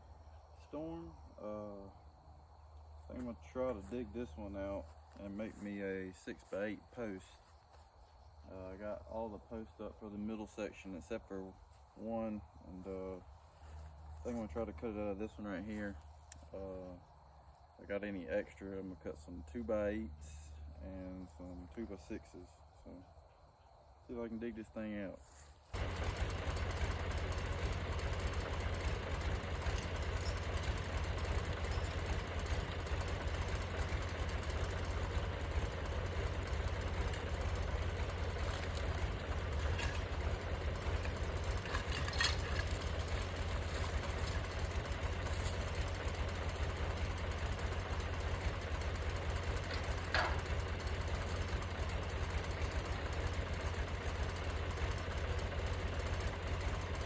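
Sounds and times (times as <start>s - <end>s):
engine idling: 0.0s - 22.9s, 25.7s - 57.0s.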